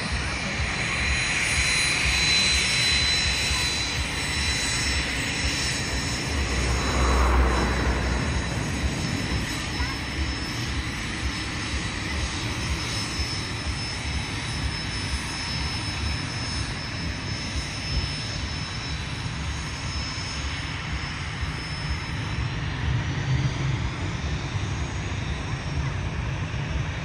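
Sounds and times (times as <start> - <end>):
jet engines whining and rumbling: 0.0 - 27.0.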